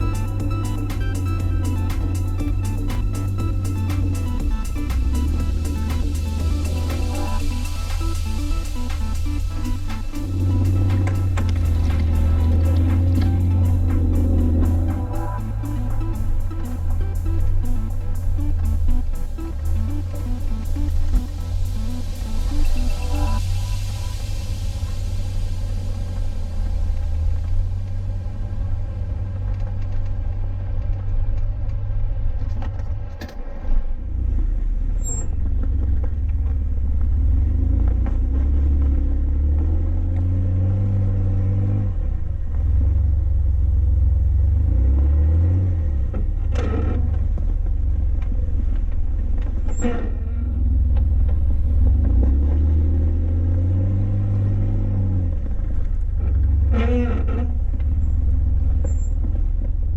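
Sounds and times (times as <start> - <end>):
vehicle engine rumble: 0.0 - 59.9.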